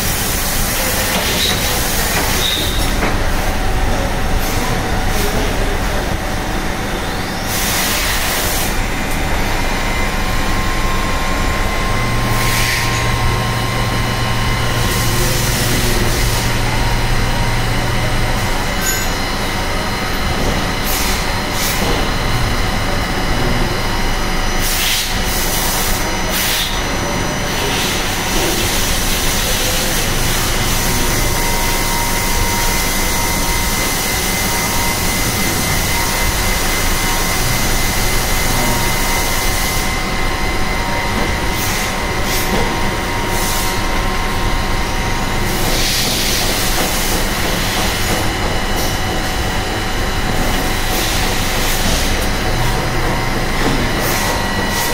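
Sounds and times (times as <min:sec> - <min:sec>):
machining noise: 0:00.0 - 0:54.9
spindle whine: 0:00.0 - 0:54.9.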